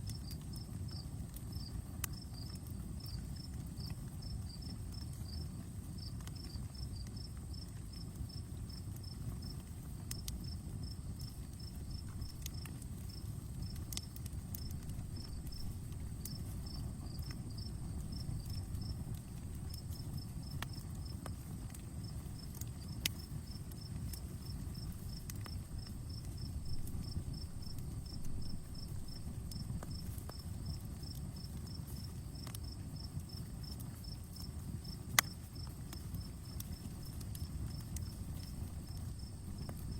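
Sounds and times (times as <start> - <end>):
campfire crackling: 0.0 - 39.9
insects chirping: 0.1 - 39.9.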